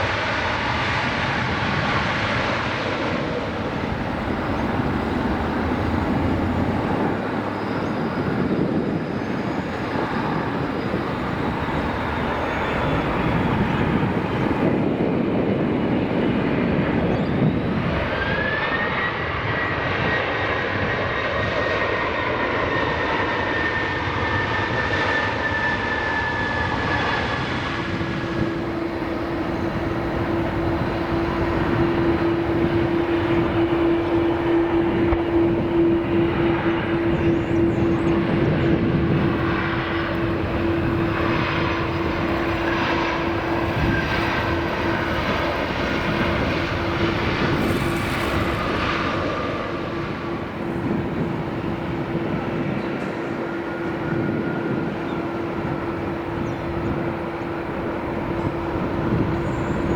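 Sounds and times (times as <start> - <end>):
high jet engine whine: 0.0 - 59.9
jet airliner landing: 0.0 - 59.9
low jet engine drone: 0.0 - 59.9.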